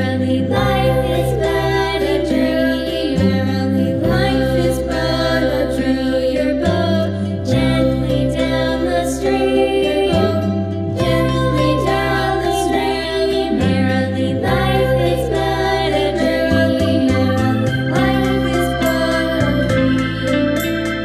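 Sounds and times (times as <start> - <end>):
sustained low accompaniment notes: 0.0 - 21.0.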